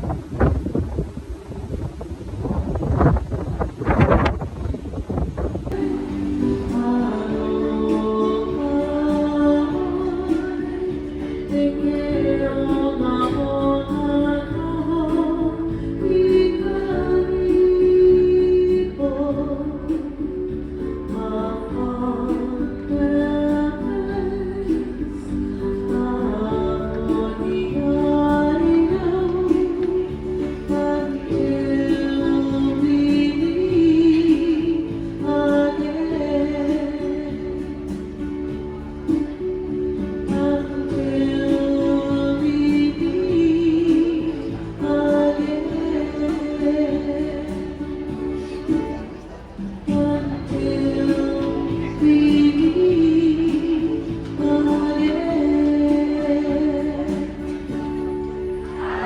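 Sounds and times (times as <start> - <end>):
plucked guitar: 5.7 - 59.0
woman singing: 5.7 - 59.0.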